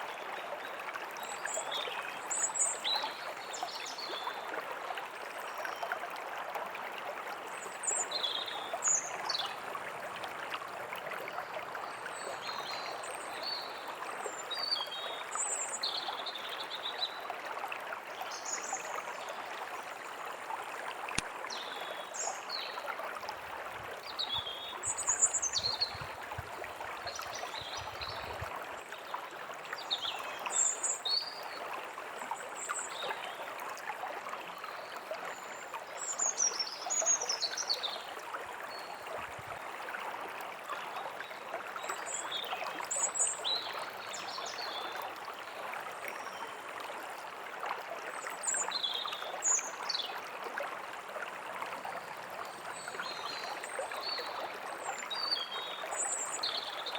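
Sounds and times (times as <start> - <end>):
stream running: 0.0 - 56.9.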